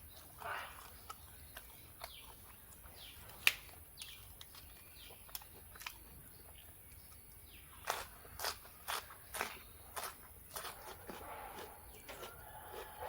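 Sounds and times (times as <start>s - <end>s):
quiet chewing and mouth clicks: 0.0s - 13.0s.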